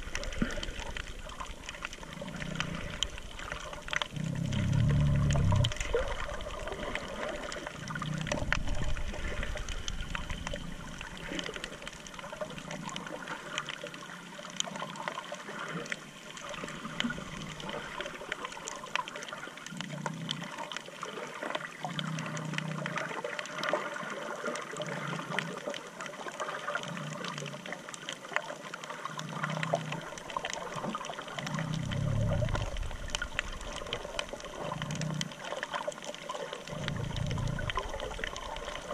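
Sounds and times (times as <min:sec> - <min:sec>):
faint clicks: 0:00.0 - 0:23.9, 0:24.8 - 0:38.9
low muffled water surges: 0:00.0 - 0:38.9.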